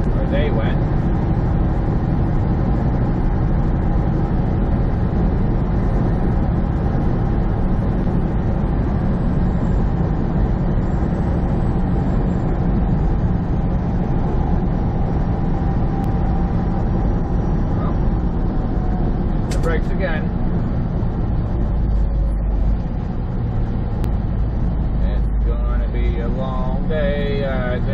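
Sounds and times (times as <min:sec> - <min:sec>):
road noise: 0:00.0 - 0:27.9
truck engine drone: 0:00.0 - 0:27.9.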